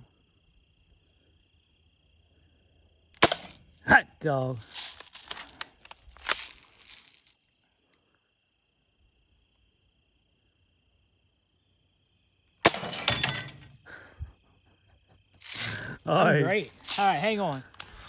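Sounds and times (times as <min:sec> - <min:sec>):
faint insect trill: 0:00.0 - 0:18.0.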